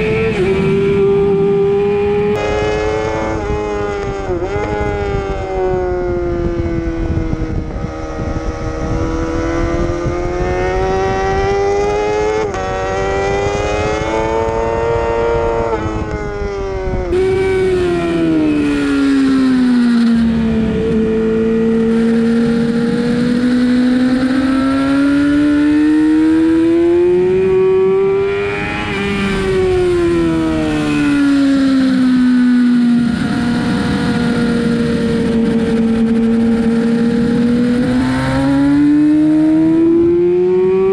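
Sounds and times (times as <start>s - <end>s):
motorcycle engine revving: 0.0s - 40.9s
wind rush: 0.0s - 40.9s.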